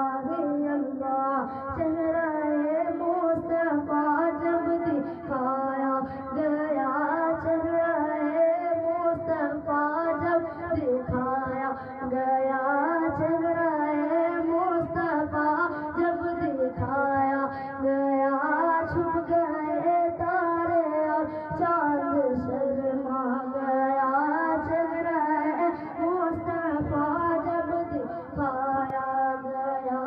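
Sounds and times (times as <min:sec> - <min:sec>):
high voice singing devotional song: 0:00.0 - 0:30.0.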